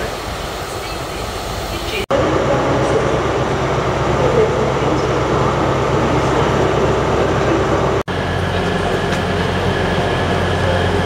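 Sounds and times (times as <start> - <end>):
low hum of standing trains: 0.0 - 11.0
station bustle: 0.0 - 11.0.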